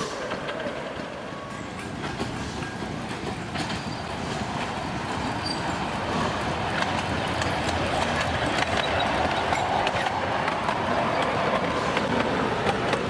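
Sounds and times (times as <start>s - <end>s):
miniature steam locomotive running: 0.0s - 13.0s
wheels clicking on rails: 0.0s - 13.0s.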